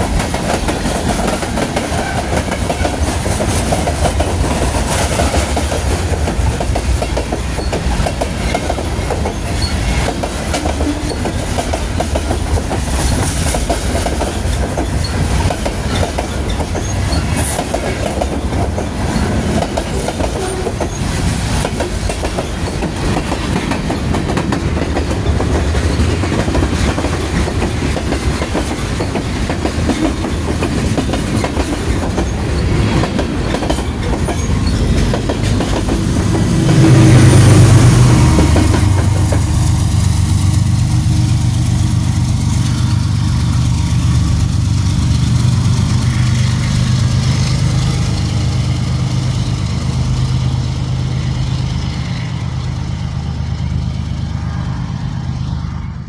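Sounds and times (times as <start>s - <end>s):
train wheels clattering over rails: 0.0s - 52.2s
diesel locomotive engine hum: 0.0s - 56.0s.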